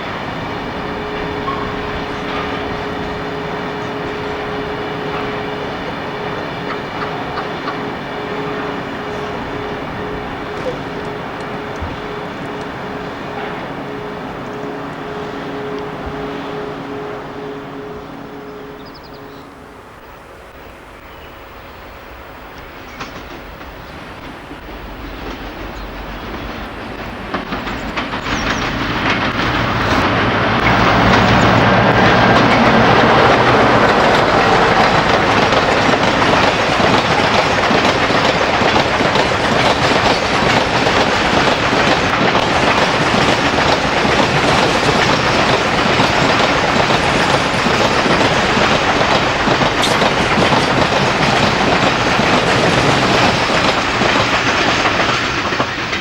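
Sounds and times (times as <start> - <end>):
train wheels clacking on rails: 0.0 - 19.4, 20.2 - 56.0
diesel locomotive engine running: 0.0 - 56.0.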